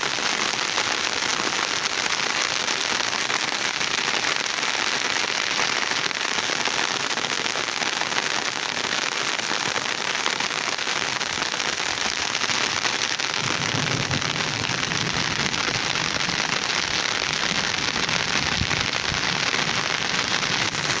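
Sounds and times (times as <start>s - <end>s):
rain falling on ground: 0.0s - 21.0s.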